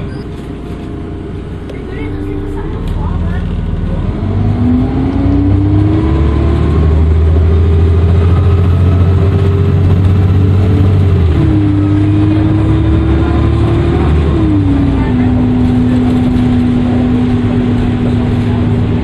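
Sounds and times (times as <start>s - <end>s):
bus diesel engine humming: 0.0s - 19.0s.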